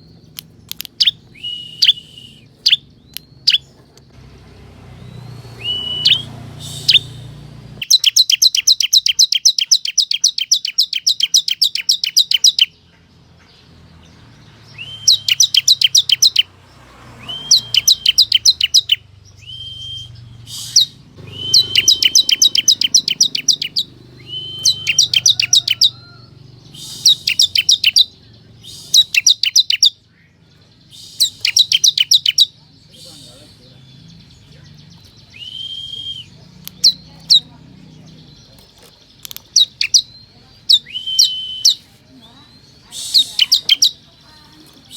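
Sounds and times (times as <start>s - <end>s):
bird singing rapid trill: 0.0s - 44.9s.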